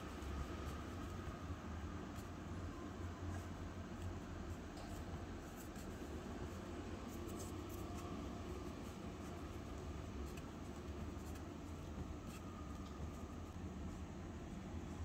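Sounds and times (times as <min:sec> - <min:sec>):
fingers kneading dough: 0:00.0 - 0:15.0.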